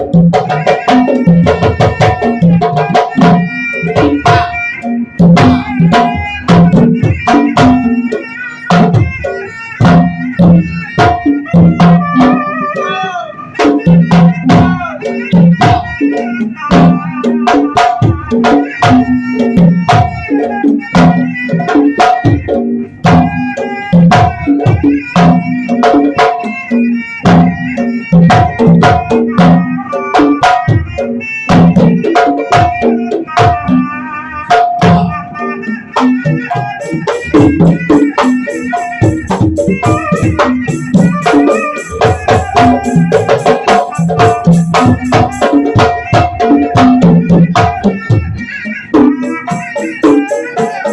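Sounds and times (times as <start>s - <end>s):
hand drums in busy rhythm: 0.0s - 50.9s.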